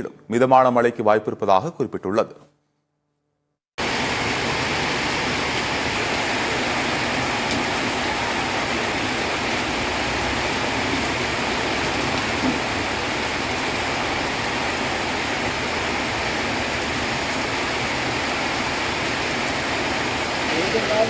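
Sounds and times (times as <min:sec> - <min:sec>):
steady rain: 0:03.8 - 0:21.0.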